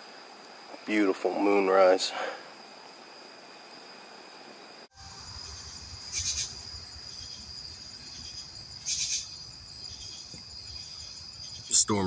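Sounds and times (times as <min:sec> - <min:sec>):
crickets trilling: 0:00.0 - 0:12.0
insect buzzy calls: 0:00.0 - 0:12.0.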